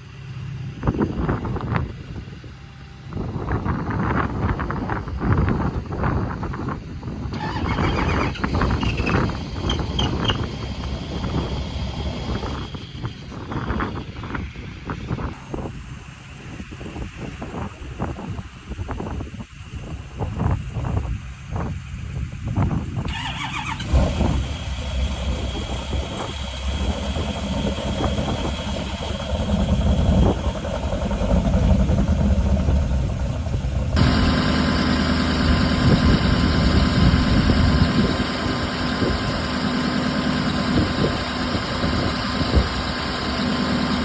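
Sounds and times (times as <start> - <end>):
diesel truck engine starting and running: 0.0 - 44.0.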